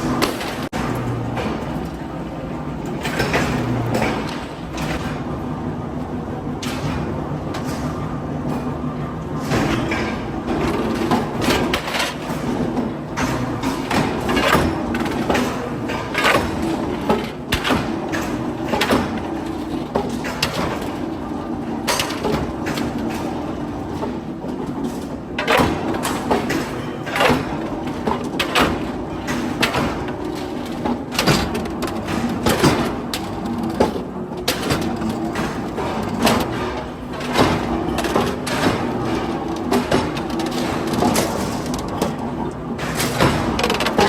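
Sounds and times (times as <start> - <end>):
machine hum: 0.0 - 44.0.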